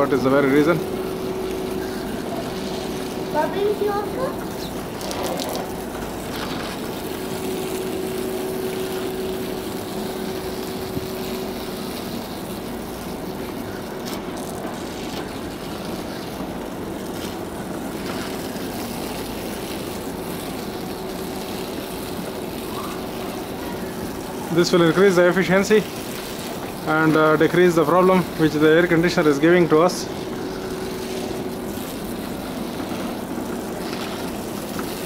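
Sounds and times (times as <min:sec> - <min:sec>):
hose water spraying on metal grille: 0:00.0 - 0:35.0.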